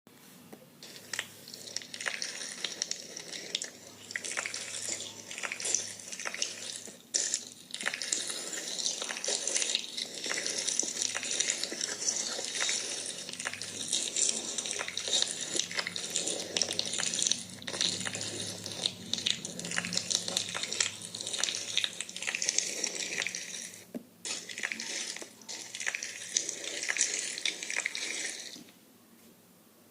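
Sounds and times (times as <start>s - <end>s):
hands squishing slime: 0.8s - 28.7s.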